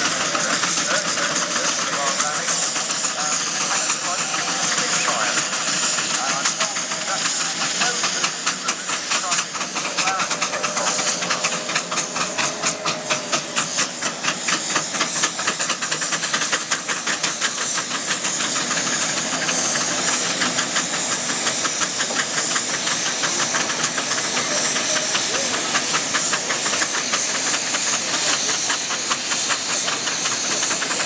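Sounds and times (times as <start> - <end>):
steam engines chuffing: 0.0 - 31.0
steam hissing: 0.0 - 31.0.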